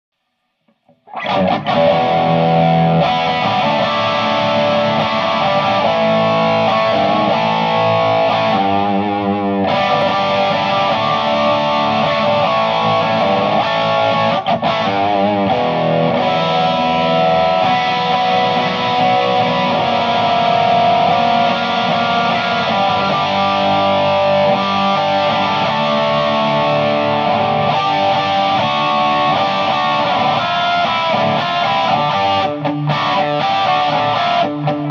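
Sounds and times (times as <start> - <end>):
distorted electric guitar: 0.5 - 34.9.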